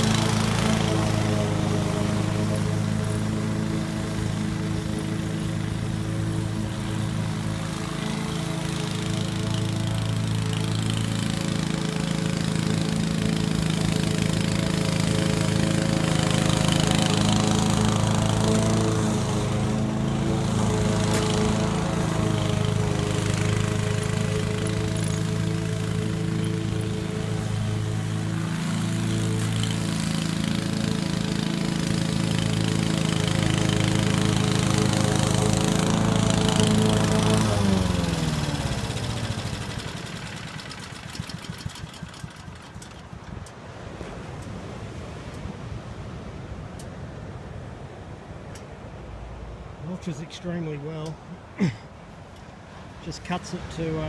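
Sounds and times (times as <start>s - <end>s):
lawn mower engine running: 0.0s - 44.8s.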